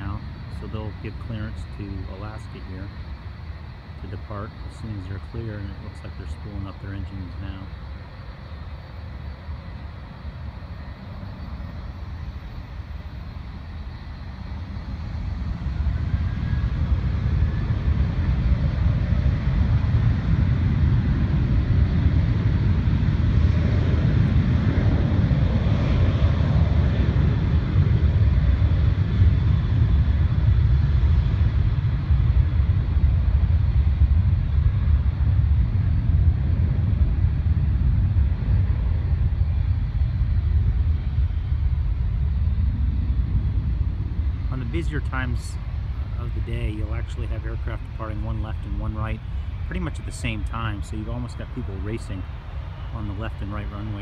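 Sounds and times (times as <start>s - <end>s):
jet engines at takeoff: 0.0s - 54.0s.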